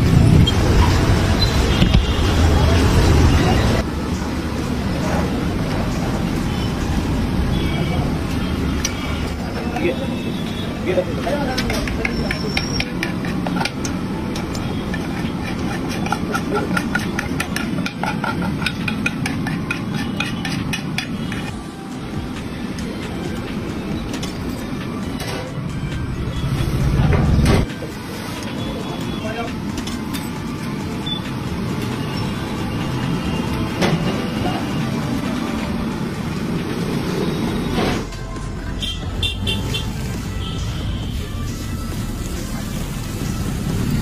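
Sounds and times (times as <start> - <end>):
low traffic rumble: 0.0 - 44.0.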